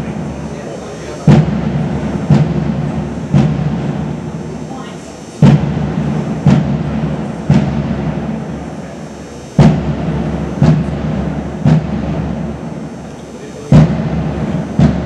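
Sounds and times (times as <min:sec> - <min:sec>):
bass drum strokes: 0:00.0 - 0:15.0.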